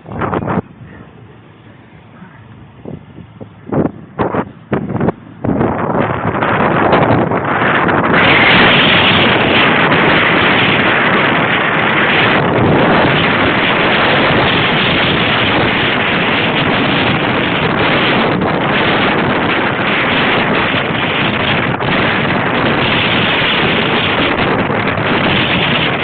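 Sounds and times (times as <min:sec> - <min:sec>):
loud wind rushing over microphone: 0:00.0 - 0:26.0.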